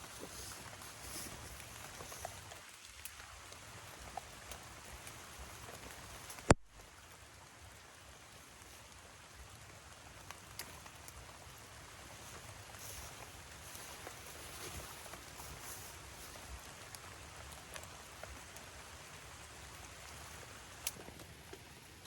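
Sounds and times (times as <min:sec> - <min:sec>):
light rain hiss: 0:00.0 - 0:22.0
water drips: 0:00.0 - 0:22.0.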